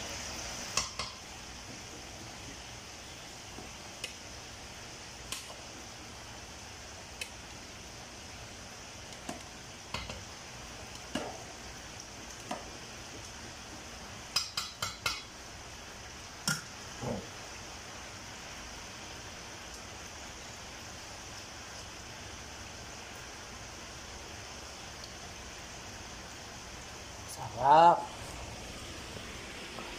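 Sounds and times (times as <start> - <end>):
steady background hiss: 0.0 - 29.9.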